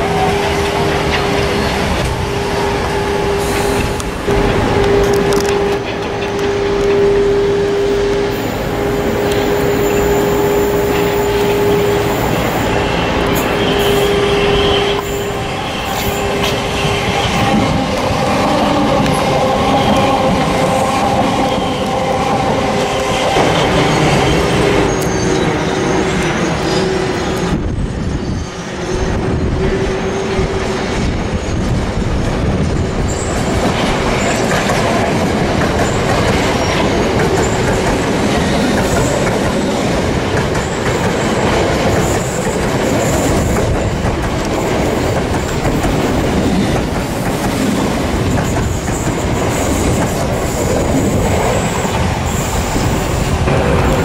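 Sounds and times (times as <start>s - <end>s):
electric trains passing: 0.0s - 54.0s
steady train whine: 0.0s - 54.0s.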